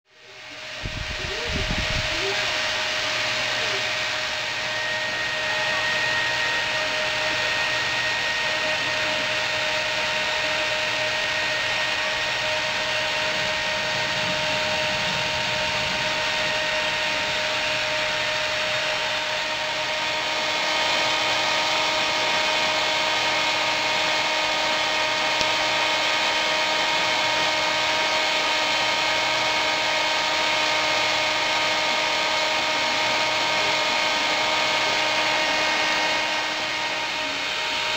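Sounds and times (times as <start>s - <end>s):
hair dryer running: 0.0s - 37.9s.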